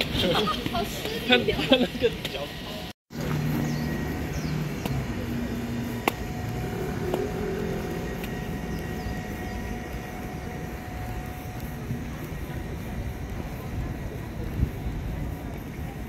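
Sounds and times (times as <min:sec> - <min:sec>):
traffic rumble: 0:00.0 - 0:16.0
low engine hum: 0:03.1 - 0:16.0.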